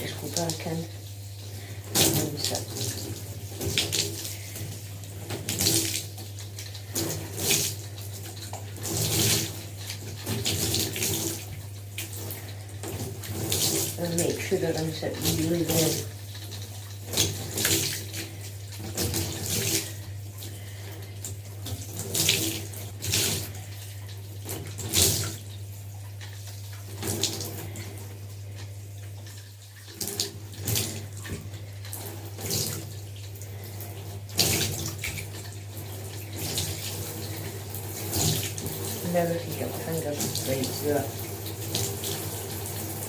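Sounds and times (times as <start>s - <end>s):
tap water splashing through hair: 0.0s - 20.6s, 21.2s - 27.8s, 28.5s - 33.4s, 34.2s - 43.0s.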